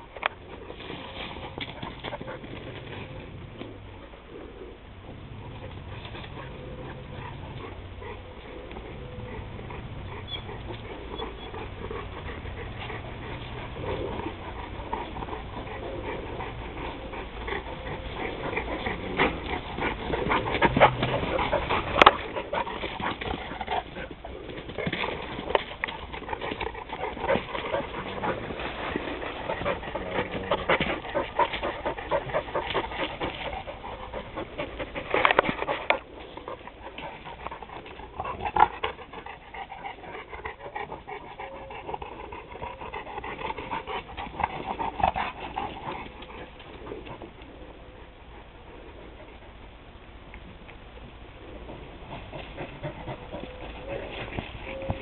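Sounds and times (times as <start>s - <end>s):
dogs panting: 0.0s - 49.7s, 51.3s - 55.0s
dogs play-fighting: 0.0s - 55.0s.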